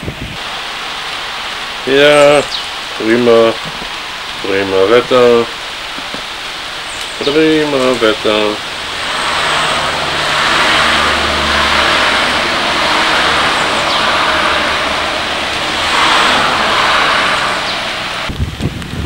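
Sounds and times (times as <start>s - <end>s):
car engine hum: 0.0s - 18.4s
pouring rain: 0.0s - 19.0s
tyres hissing on wet road: 0.0s - 19.0s.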